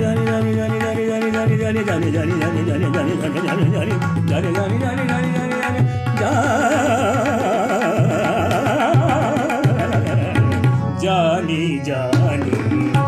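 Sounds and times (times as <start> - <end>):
tabla beats: 0.0 - 13.0.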